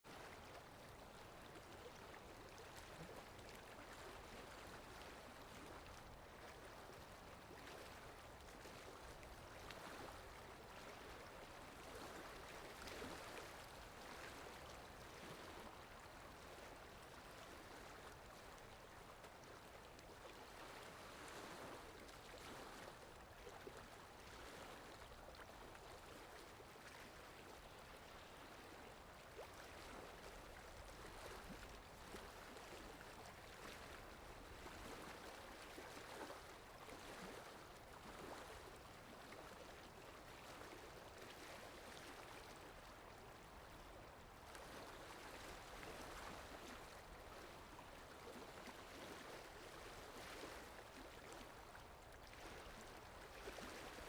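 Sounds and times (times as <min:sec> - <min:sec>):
rushing water: 0:00.1 - 0:54.0.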